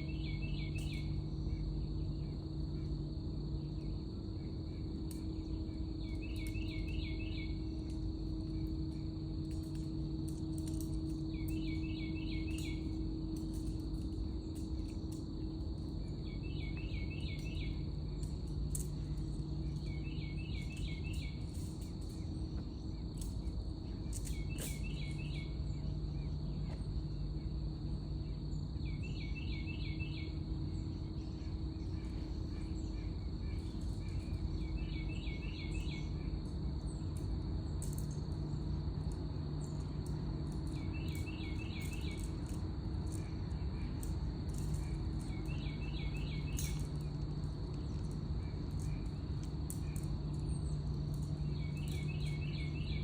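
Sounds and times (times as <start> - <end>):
insect chorus drone: 0.0 - 53.0
low hum and rumble: 0.0 - 53.0.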